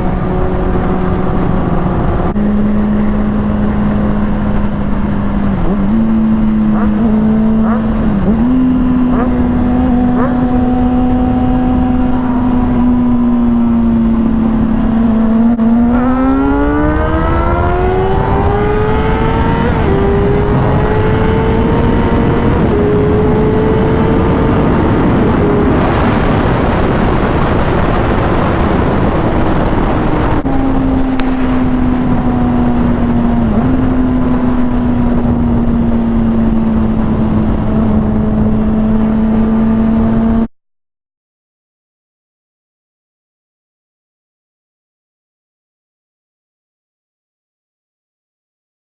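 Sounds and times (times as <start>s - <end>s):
heavy wind rush: 0.0s - 40.5s
motorcycle engine accelerating: 0.0s - 40.5s.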